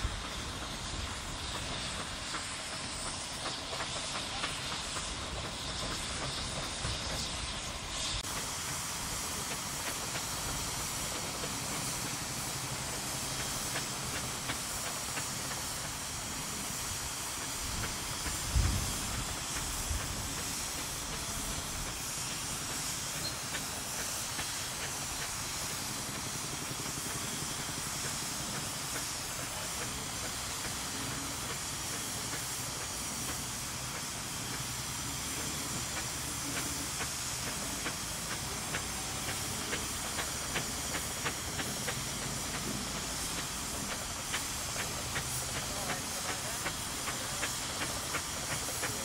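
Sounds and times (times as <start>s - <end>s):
steady hiss of steam: 0.0s - 49.0s
steam traction engines working: 0.0s - 49.0s.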